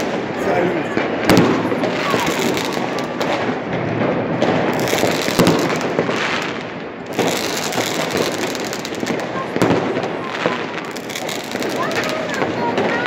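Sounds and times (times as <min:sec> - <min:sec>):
fireworks crackling pops: 0:00.0 - 0:13.0
loud firework bangs: 0:00.0 - 0:13.0.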